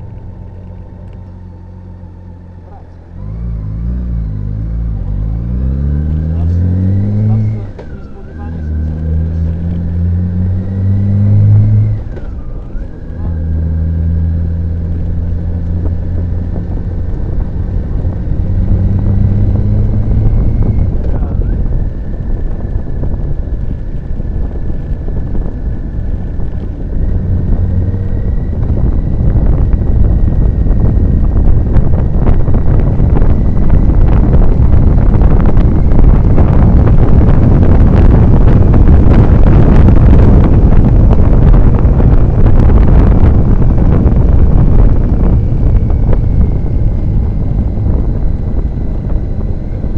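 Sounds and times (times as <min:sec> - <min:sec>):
motorcycle engine drone: 0:00.0 - 0:49.9
wind buffeting microphone: 0:00.0 - 0:49.9.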